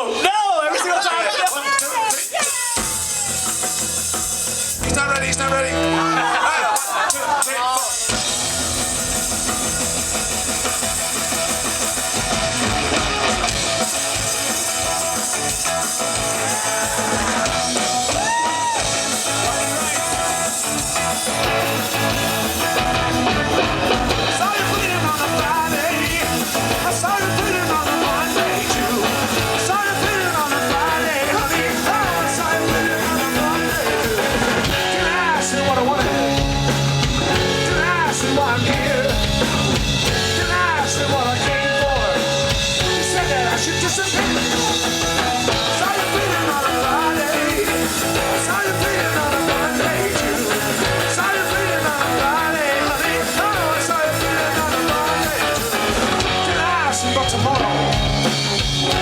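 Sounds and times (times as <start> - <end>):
punk rock band playing loud: 0.0 - 59.0.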